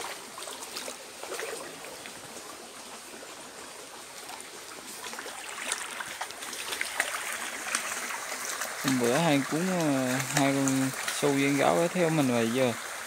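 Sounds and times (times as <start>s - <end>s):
stream trickling over stones: 0.0s - 13.0s.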